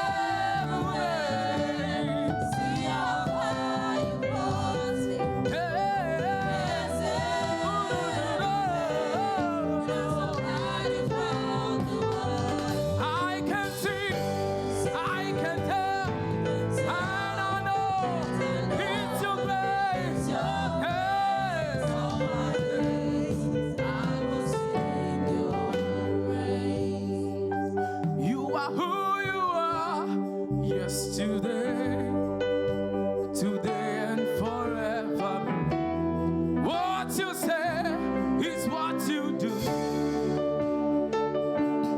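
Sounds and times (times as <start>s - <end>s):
choir singing gospel: 0.0s - 41.9s.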